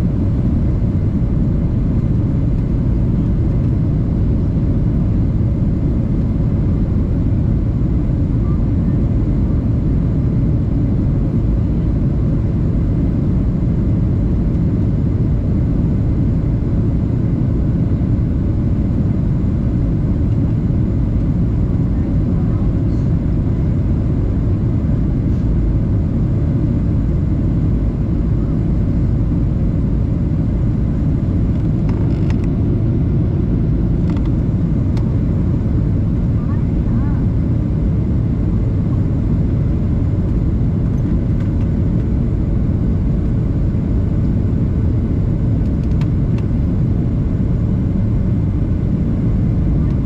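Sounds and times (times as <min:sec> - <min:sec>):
airplane cabin rumble: 0:00.0 - 0:50.0.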